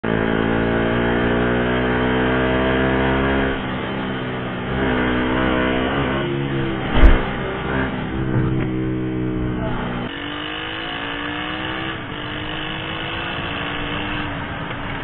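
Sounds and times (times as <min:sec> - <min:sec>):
small motorcycle engine running: 0:00.1 - 0:15.0.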